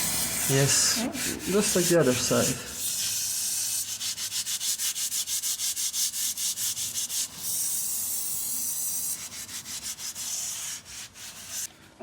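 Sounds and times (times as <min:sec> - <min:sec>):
scratchy hiss: 0:00.0 - 0:11.7.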